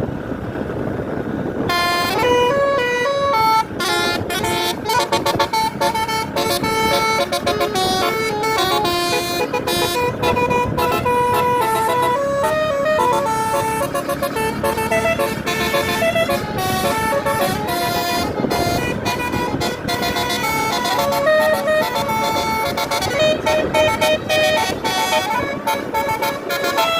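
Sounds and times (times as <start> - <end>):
bus multi-tone horn melody: 1.6 - 26.9.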